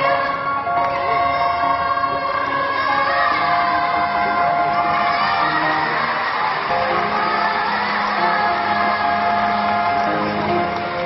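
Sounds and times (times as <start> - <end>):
children's choir singing: 0.0 - 11.0.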